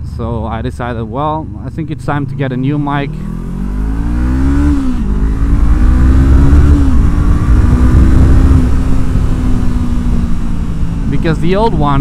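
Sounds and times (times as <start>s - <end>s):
motorcycle engine revving: 0.9s - 12.0s.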